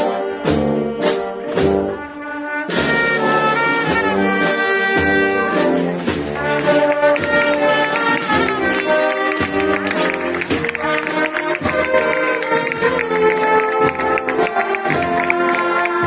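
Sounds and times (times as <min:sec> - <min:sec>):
brass band march: 0:00.0 - 0:16.0
drum beats: 0:00.4 - 0:16.0.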